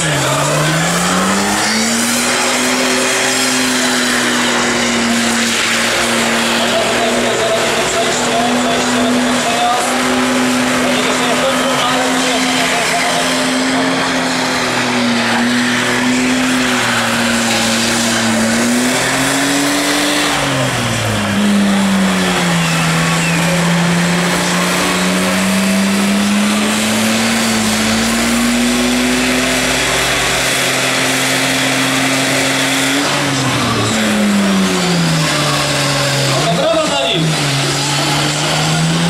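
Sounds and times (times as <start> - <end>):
car engine revving high: 0.0 - 39.0
tyres screeching on tarmac: 0.0 - 39.0.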